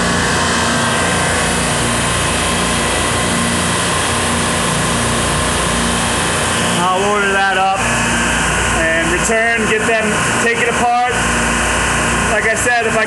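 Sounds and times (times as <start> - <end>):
refrigeration compressors humming: 0.0 - 13.0.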